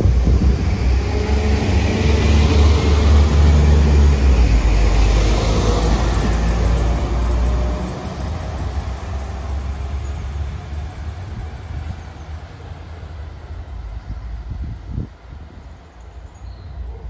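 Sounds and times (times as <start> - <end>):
diesel train engine rumble: 0.0 - 17.0.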